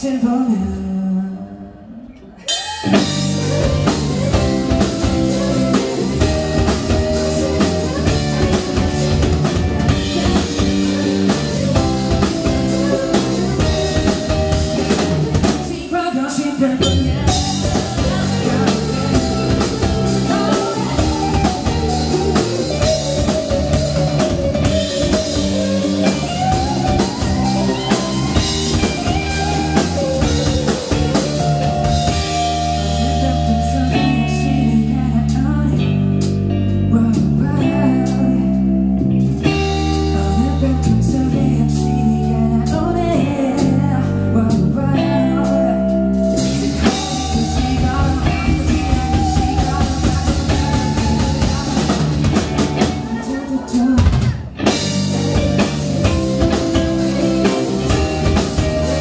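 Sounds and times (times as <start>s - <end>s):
live rock band: 0.0s - 59.0s
person singing: 0.0s - 59.0s.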